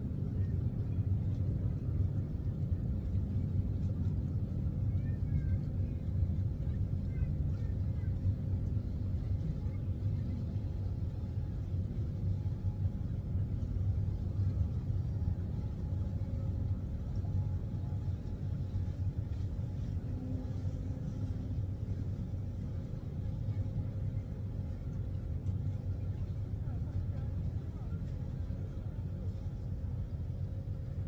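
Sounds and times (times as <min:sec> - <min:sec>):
faint steady hum: 0:00.0 - 0:31.0
low city rumble: 0:00.0 - 0:31.0.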